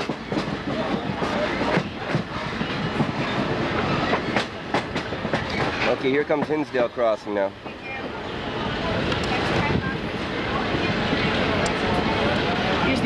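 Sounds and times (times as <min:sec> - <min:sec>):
train rumbling and rattling: 0:00.0 - 0:13.0.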